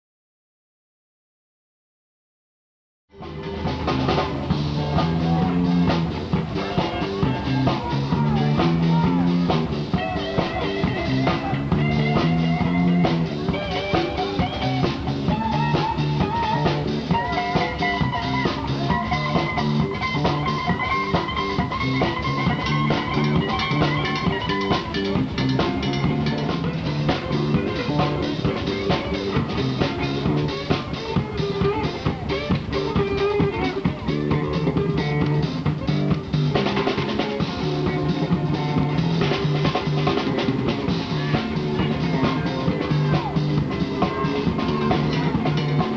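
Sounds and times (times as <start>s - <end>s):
rock music: 3.1s - 45.9s.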